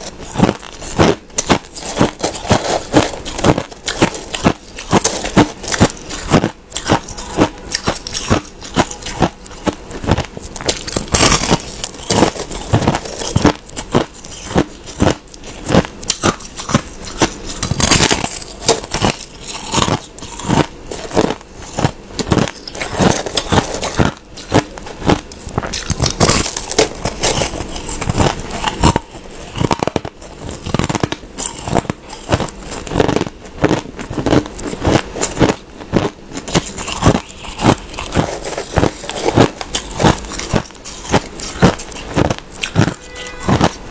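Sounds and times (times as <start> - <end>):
ice crunching while chewed: 0.0 - 43.9.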